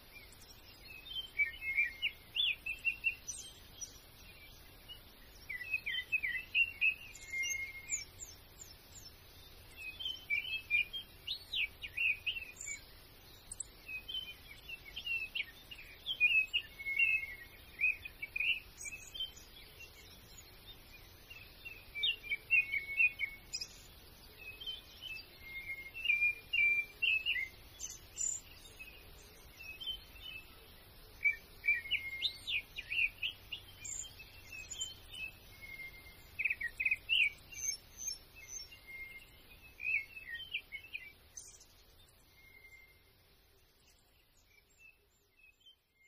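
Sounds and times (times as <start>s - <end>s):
faint background hiss: 0.0s - 46.0s
small birds chirping: 0.0s - 46.0s.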